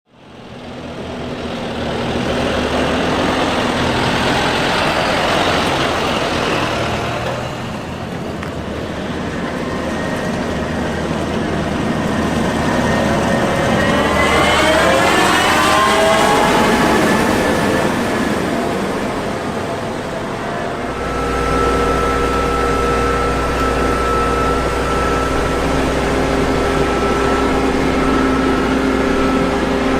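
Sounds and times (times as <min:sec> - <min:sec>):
engine-like machine noise: 0:00.1 - 0:29.9
rising whine: 0:00.2 - 0:29.9.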